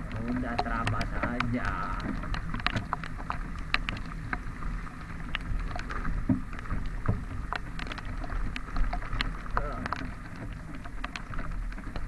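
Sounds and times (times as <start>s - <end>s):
raindrops tapping microphone: 0.0s - 12.0s.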